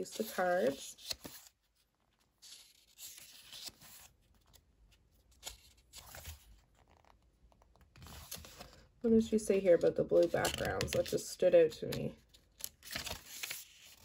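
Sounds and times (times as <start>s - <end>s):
paper pages rustling: 0.0s - 9.0s, 10.1s - 14.0s.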